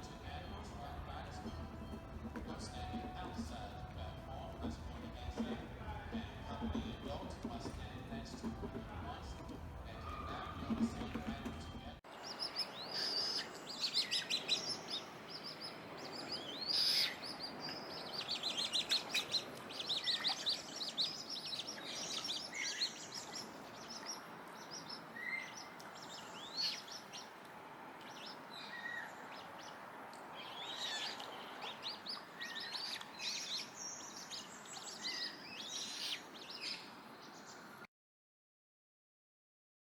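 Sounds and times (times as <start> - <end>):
steady background hiss: 0.0 - 37.8
birds chirping and trilling: 0.0 - 37.9.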